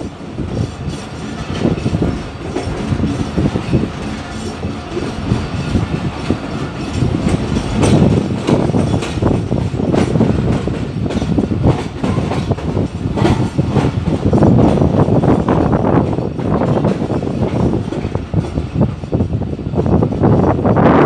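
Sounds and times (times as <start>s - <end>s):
wheels clacking over rails: 0.0s - 20.6s
diesel locomotive rumble: 0.0s - 21.0s.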